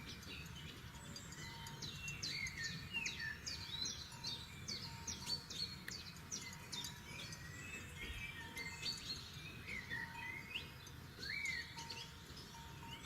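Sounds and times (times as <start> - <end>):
songbirds chirping and whistling: 0.0 - 13.0.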